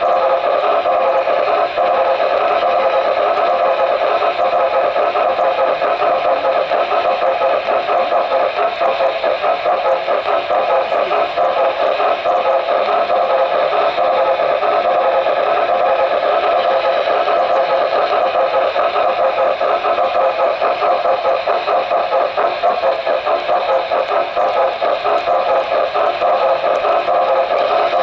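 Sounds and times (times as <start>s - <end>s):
model train motor whirring: 0.0s - 28.0s.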